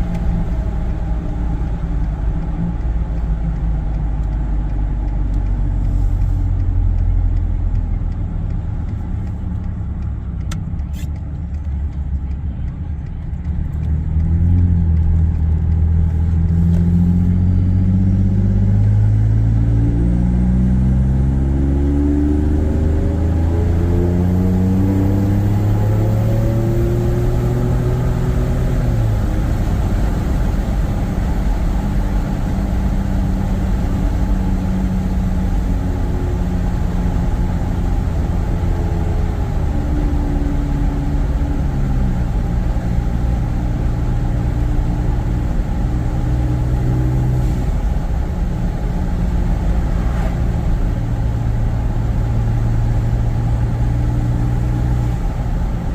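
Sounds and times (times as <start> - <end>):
truck engine accelerating: 0.0 - 55.9.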